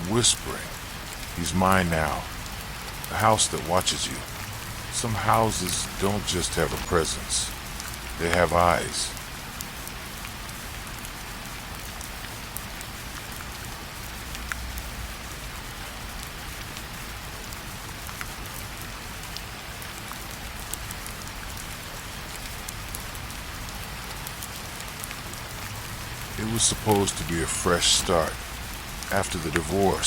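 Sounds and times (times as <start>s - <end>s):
raindrop ticks: 0.0s - 30.0s
steady rainfall: 0.0s - 30.0s.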